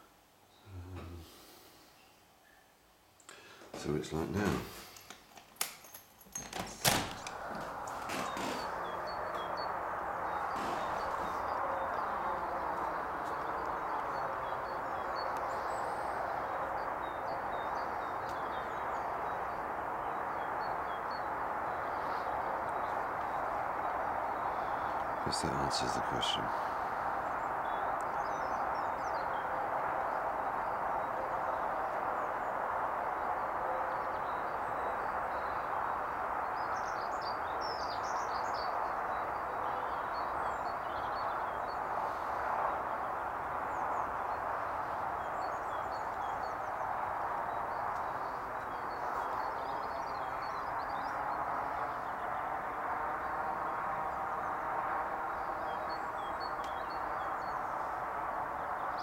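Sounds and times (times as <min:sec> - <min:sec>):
small birds chirping: 0:00.5 - 0:59.0
motorway traffic roar: 0:03.8 - 0:59.0.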